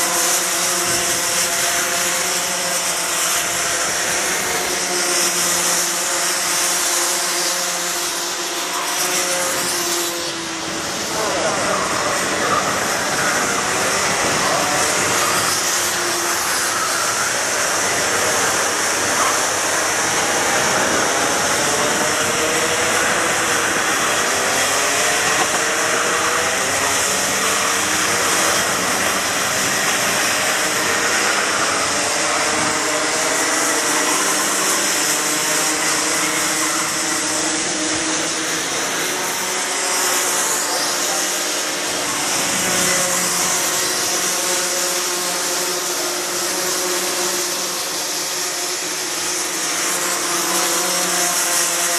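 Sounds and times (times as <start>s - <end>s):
kart engines buzzing: 0.0s - 51.9s.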